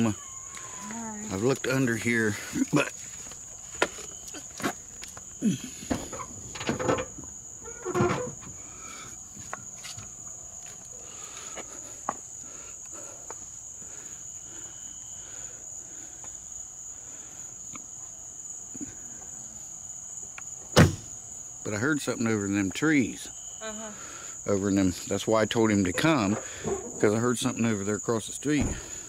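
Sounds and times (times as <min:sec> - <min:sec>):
night insects droning: 0:00.0 - 0:29.0.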